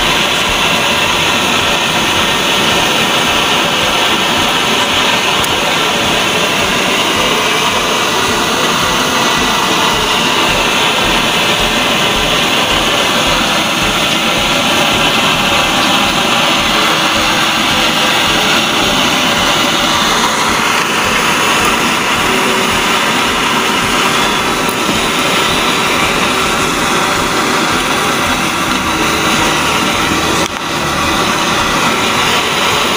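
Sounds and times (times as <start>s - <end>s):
stove burner hissing: 0.0s - 32.9s
water boiling: 0.0s - 32.9s.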